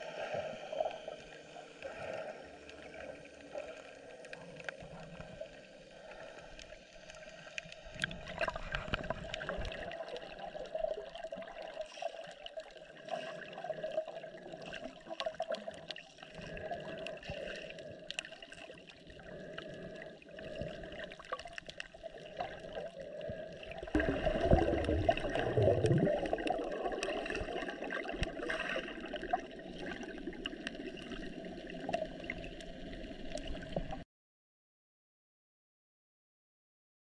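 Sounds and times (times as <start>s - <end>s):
low underwater rumbles: 0.0s - 11.9s, 12.5s - 34.0s
underwater sloshing and gurgling: 0.0s - 34.0s.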